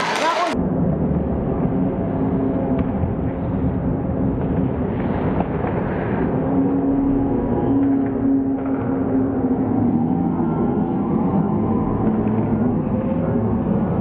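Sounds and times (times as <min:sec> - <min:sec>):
steady low hum: 0:00.5 - 0:14.0
slowed deep rumble: 0:00.6 - 0:14.0.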